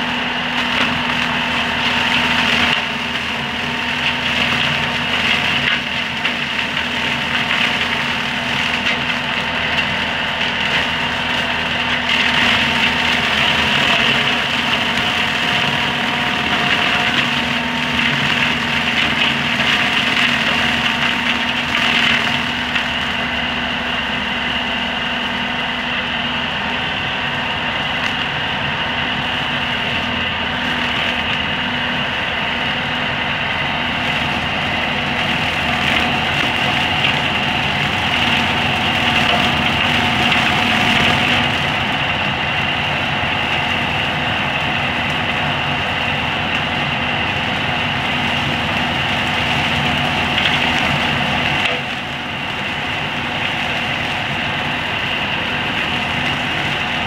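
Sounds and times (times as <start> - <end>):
mower cutting brush: 0.0 - 57.0
tractor engine running: 0.0 - 57.0.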